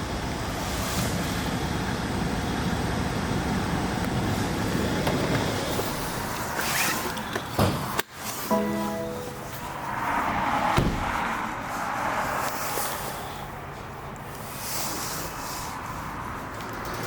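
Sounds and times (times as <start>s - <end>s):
car road and wind noise: 0.0s - 8.5s, 9.3s - 17.0s.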